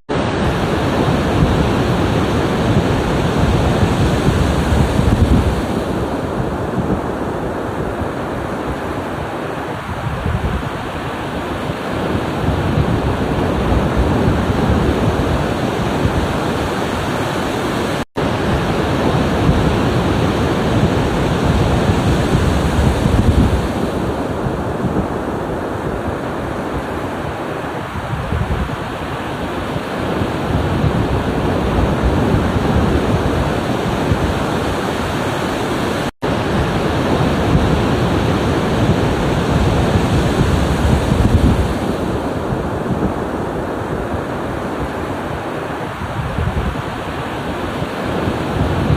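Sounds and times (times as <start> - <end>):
ocean waves washing ashore: 0.1 - 48.9.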